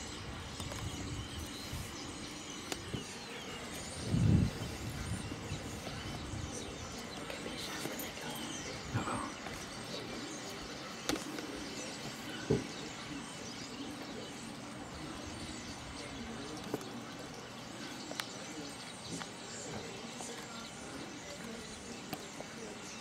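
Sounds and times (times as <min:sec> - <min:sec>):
starlings chattering: 0:00.0 - 0:23.0.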